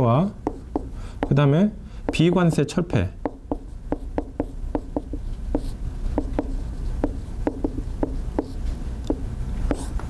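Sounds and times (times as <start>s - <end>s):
marker pen writing on whiteboard: 0.4s - 1.5s, 2.1s - 10.0s.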